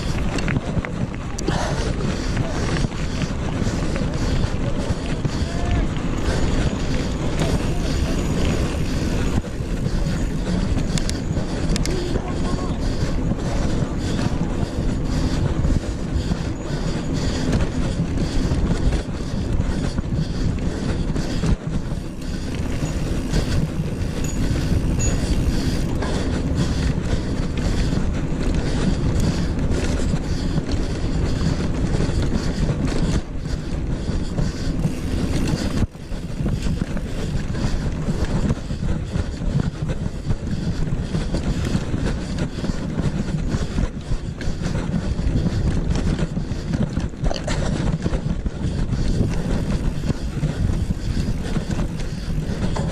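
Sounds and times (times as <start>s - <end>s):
bike rattling over bumps: 0.0s - 52.9s
bike tyres rumbling on dirt: 0.0s - 52.9s
wind rushing over microphone: 0.0s - 52.9s.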